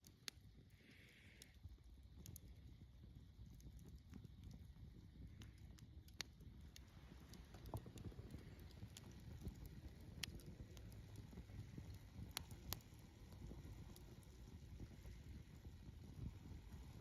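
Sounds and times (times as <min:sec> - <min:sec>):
campfire crackling: 0:00.0 - 0:17.0
low steady rumble: 0:00.1 - 0:17.0.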